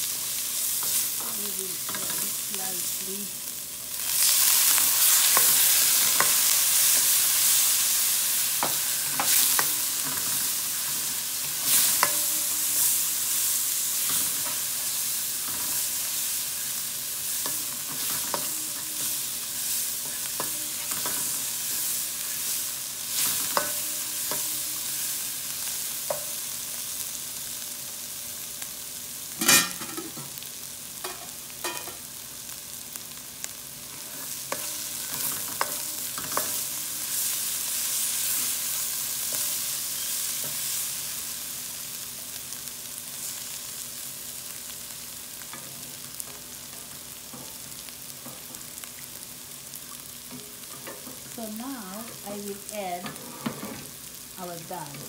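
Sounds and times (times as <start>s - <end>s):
onion and garlic sizzling in oil: 0.0s - 55.0s.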